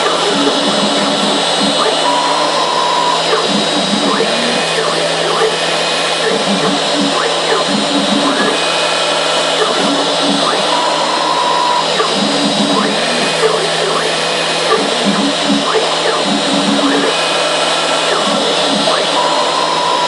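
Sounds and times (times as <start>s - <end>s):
router spindle milling foam: 0.0s - 20.0s
stepper motors whining: 0.0s - 20.0s.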